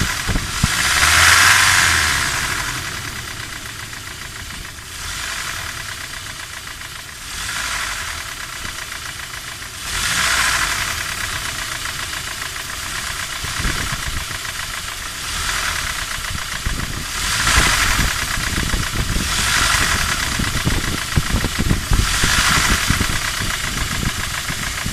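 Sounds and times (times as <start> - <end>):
car engine running: 0.0 - 24.9
rapid engine knock: 0.0 - 24.9.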